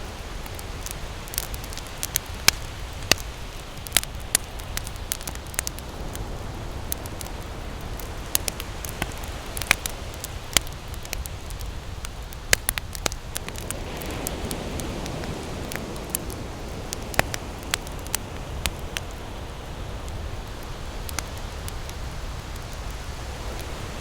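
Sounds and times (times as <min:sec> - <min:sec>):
campfire crackling and popping: 0:00.0 - 0:24.0
ocean surf: 0:00.0 - 0:24.0.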